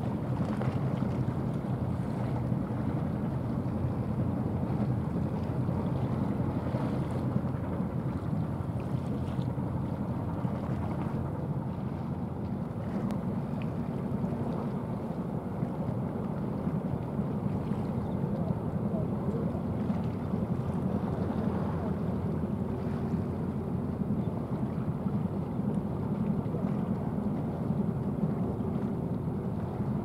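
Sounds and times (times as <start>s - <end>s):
ship diesel engine drone: 0.0s - 30.0s
wake washing: 0.0s - 30.0s.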